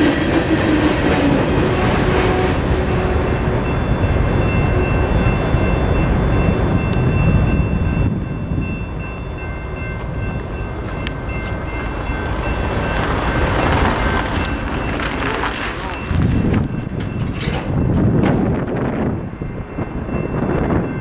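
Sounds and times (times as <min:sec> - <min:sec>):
crossing bells ringing: 0:00.0 - 0:21.0
train wheels rumbling on rails: 0:00.0 - 0:21.0.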